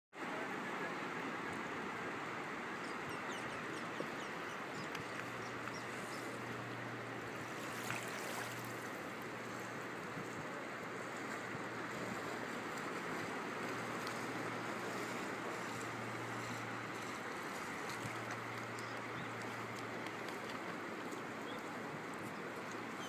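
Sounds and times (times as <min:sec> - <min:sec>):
water lapping on sandy shore: 0:00.2 - 0:23.0.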